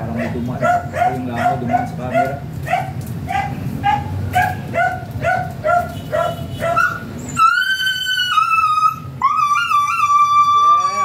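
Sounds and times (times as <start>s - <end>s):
dog whining in high yelps: 0.2s - 11.0s.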